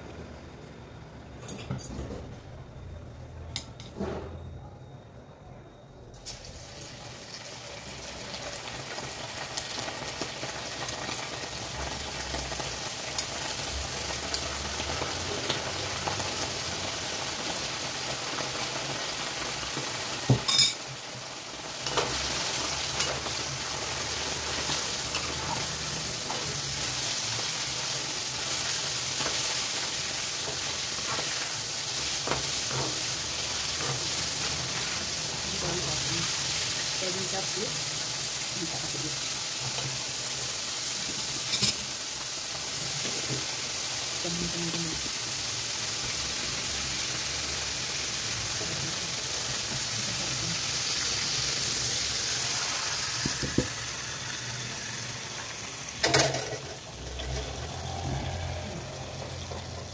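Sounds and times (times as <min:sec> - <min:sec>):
meat sizzling in hot oil: 0:06.2 - 0:59.9.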